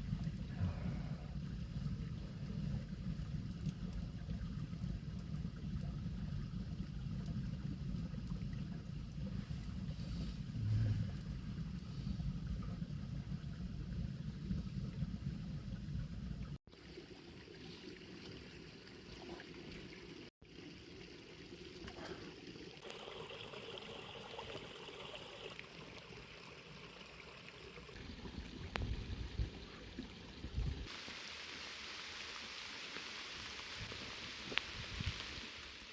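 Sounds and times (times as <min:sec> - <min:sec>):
rain: 0:00.0 - 0:16.6, 0:19.6 - 0:29.0, 0:30.8 - 0:35.9
trickling water: 0:00.0 - 0:35.9.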